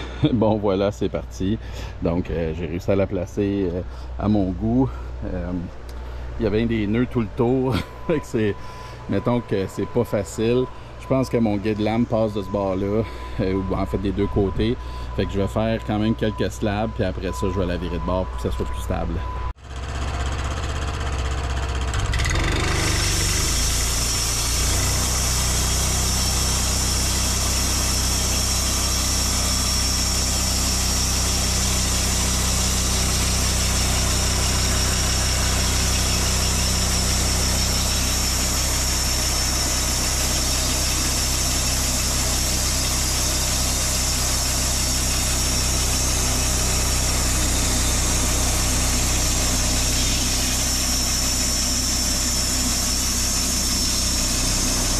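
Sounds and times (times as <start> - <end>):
sawmill engine hum: 0.0 - 54.9
band saw blade whining: 3.7 - 19.5, 21.8 - 54.9.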